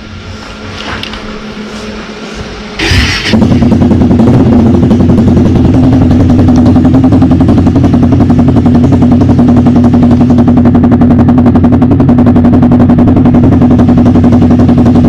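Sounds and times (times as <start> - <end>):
motorcycle engine running loud: 0.0 - 15.0.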